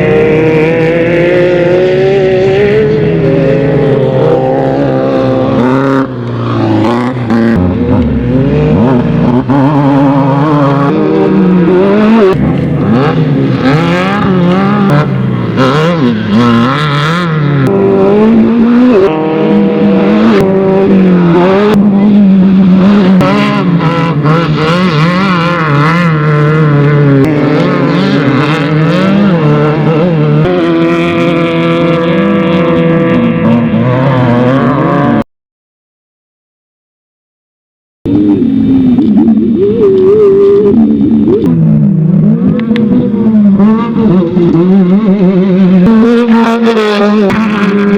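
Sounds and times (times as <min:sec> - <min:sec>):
race vehicle engines revving: 0:00.0 - 0:35.3, 0:38.1 - 0:47.9.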